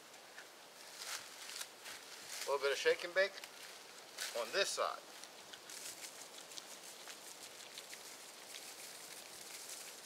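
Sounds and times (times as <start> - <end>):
granules pattering on dry leaves: 0.8 - 10.0.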